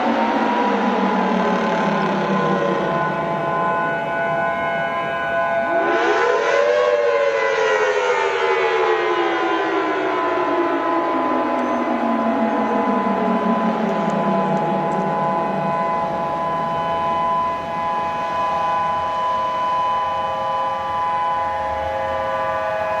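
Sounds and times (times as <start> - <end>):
lower sliding siren tone: 0.0 - 23.0
warning siren steady tone: 0.0 - 23.0.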